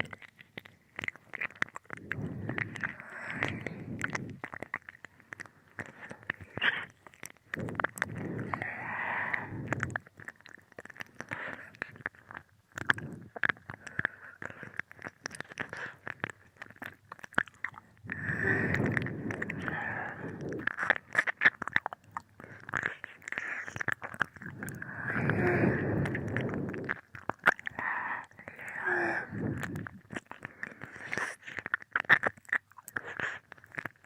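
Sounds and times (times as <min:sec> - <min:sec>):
wet mouth licking clicks: 0:00.0 - 0:34.0.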